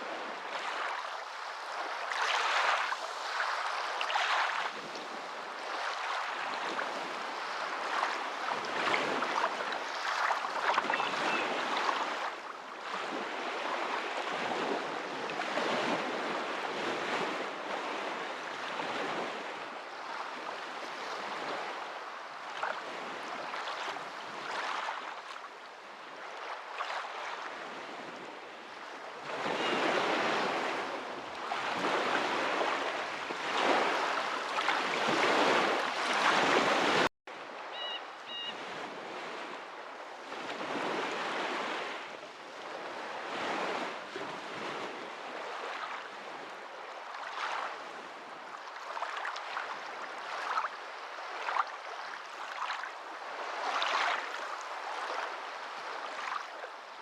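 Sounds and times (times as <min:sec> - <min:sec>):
waves washing: 0:00.0 - 0:25.4, 0:28.6 - 0:57.0.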